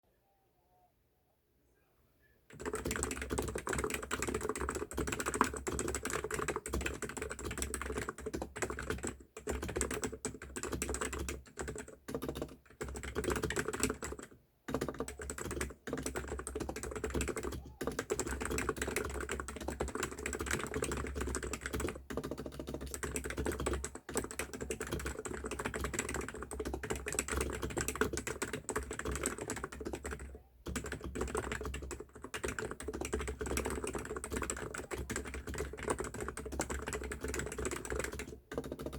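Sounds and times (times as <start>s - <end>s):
fast typing on keyboard: 2.5s - 38.9s.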